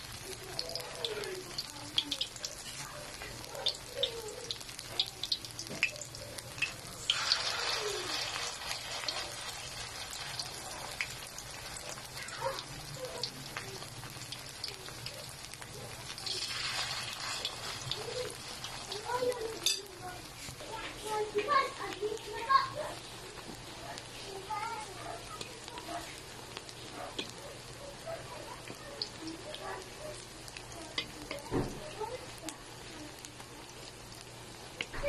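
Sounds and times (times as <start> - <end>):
patties frying in hot oil: 0.0 - 35.0.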